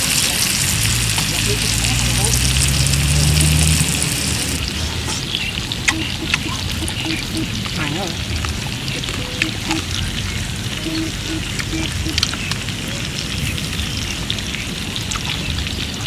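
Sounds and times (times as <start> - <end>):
food frying sizzle: 0.0 - 16.0.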